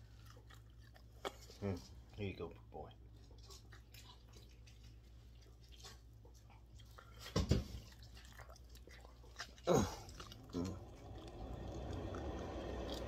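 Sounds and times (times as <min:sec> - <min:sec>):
low steady hum: 0:00.0 - 0:13.0
wet chewing and lip-smacking: 0:00.0 - 0:13.0.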